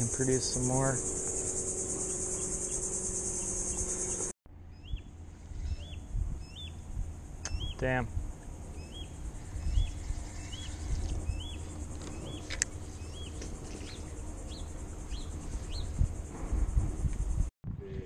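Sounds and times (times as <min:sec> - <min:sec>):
bird chirping: 0:00.0 - 0:07.9, 0:08.7 - 0:16.0
steady low rumble: 0:00.0 - 0:18.0.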